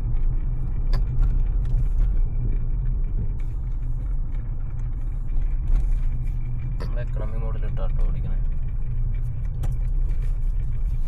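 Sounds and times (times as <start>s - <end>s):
road rumble and tyre noise: 0.0s - 11.0s.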